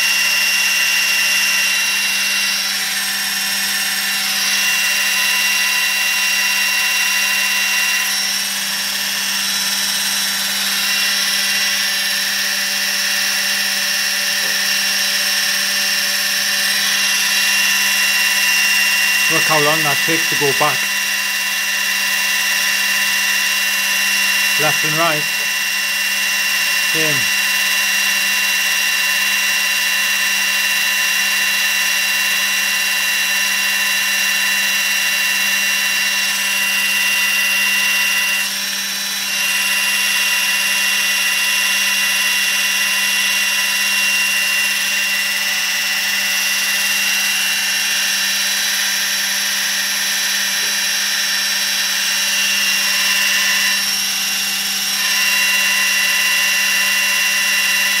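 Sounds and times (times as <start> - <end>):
rc helicopter motor whine: 0.0 - 58.0.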